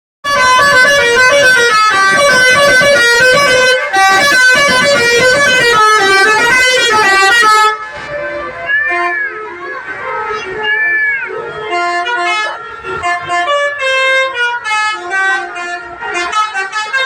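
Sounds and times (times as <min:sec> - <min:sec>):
bus musical horn playing a tune: 0:00.2 - 0:17.0.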